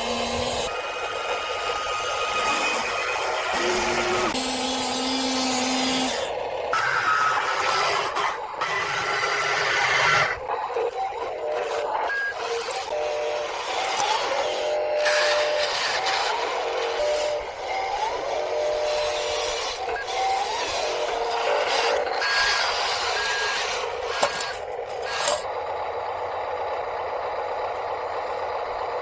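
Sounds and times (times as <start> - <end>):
small motors whining: 0.0 - 28.9.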